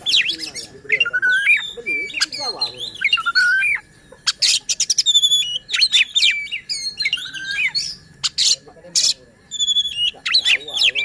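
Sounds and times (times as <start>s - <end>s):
magpie-robin singing: 0.0s - 11.0s.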